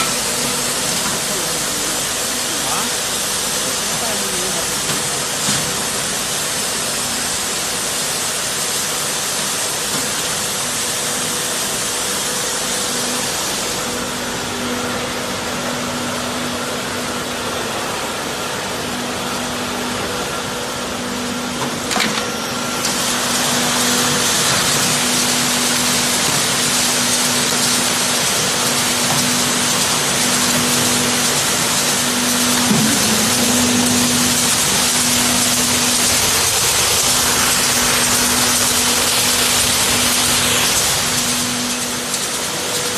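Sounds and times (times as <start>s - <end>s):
pump motor hum: 0.0s - 42.9s.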